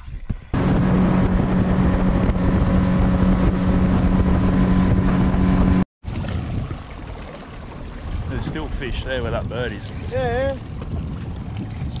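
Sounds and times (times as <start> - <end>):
wind on microphone: 0.0 - 12.0
outboard motor running: 0.6 - 12.0
water rushing past hull: 0.6 - 12.0.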